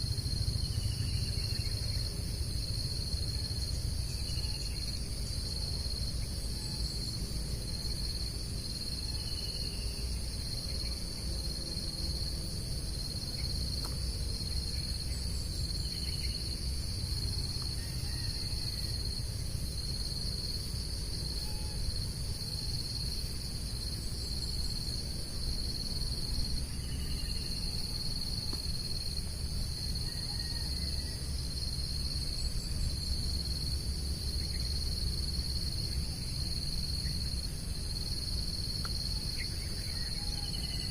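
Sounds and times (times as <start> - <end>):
crickets trilling: 0.0 - 40.9
high insect noise: 0.0 - 40.9
low steady rumble: 0.0 - 40.9.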